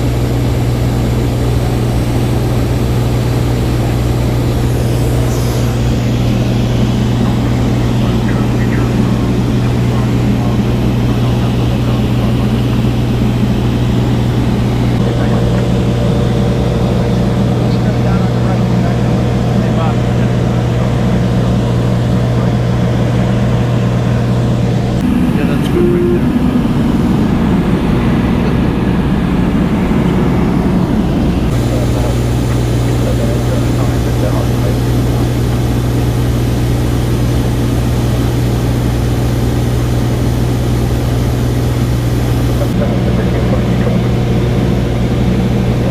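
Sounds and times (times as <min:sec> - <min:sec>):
airplane engine and propeller drone: 0:00.0 - 0:45.9.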